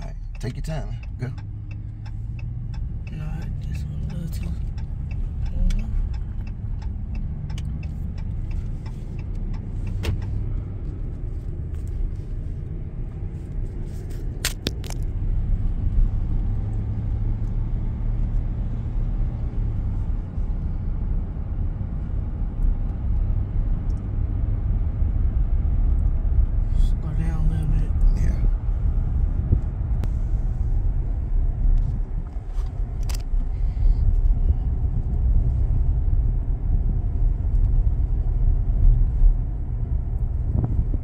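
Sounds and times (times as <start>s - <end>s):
pickup truck rumble inside cab: 0.0s - 41.0s.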